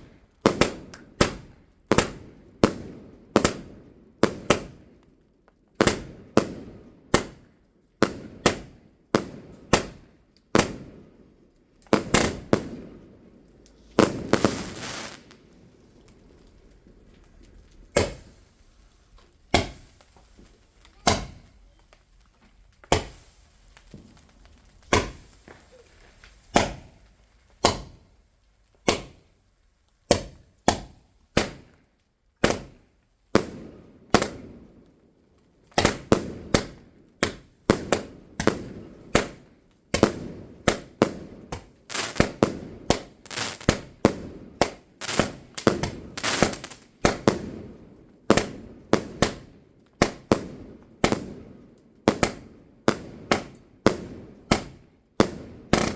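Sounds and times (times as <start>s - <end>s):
fireworks bangs: 0.0s - 4.8s, 5.8s - 11.2s, 11.9s - 28.2s, 35.7s - 55.9s.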